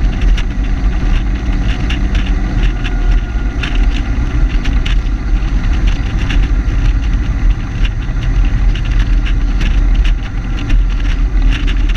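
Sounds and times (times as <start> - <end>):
car engine running: 0.0 - 11.9
road noise: 0.0 - 11.9
wind buffeting microphone: 0.0 - 11.9.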